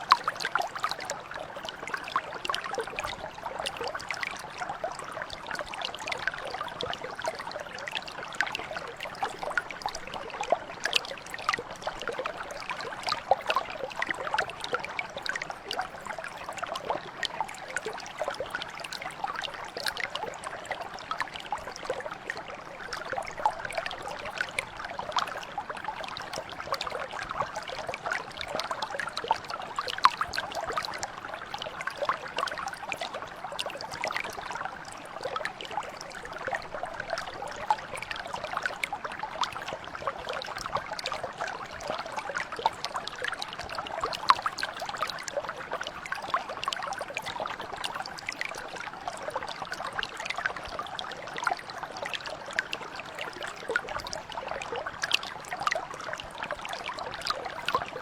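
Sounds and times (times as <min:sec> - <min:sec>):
brook flowing over stones: 0:00.0 - 0:58.0.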